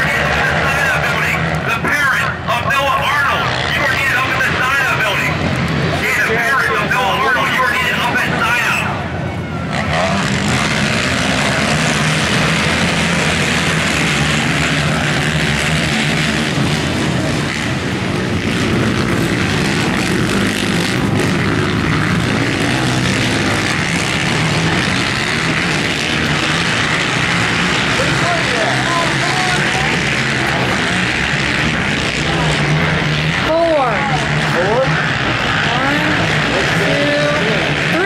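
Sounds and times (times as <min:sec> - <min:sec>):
quad engines droning: 0:00.0 - 0:38.0.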